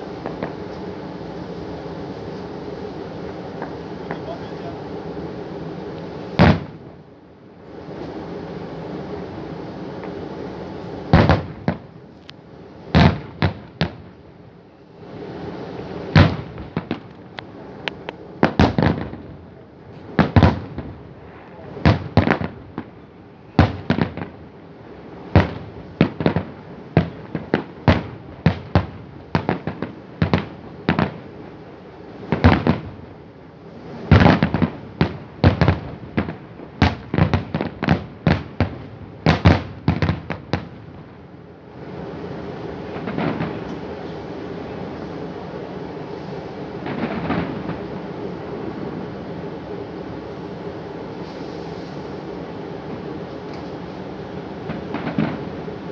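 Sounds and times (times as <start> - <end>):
fireworks bursting with bangs: 0.0 - 55.9.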